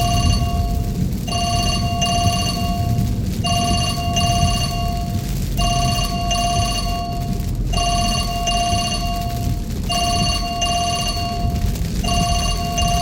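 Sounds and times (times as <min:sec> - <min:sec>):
phone ringing: 0:00.0 - 0:00.7, 0:01.3 - 0:07.2, 0:07.8 - 0:13.0
car driving rumble: 0:00.0 - 0:13.0.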